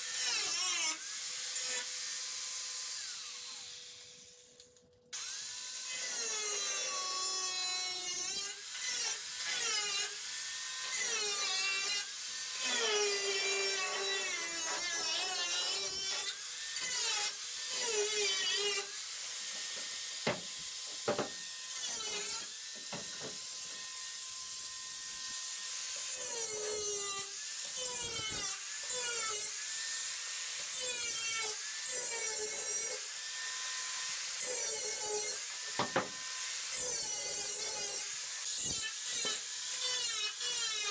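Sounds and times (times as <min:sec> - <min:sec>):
power tool cutting sheet metal: 0:00.0 - 0:04.6, 0:05.2 - 0:40.9.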